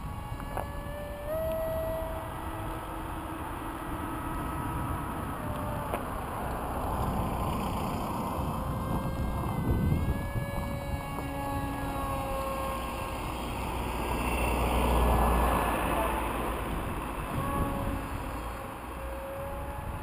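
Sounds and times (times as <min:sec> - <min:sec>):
model jet electric motor whine: 0:00.0 - 0:20.0
wind rumbling on microphone: 0:00.0 - 0:20.0.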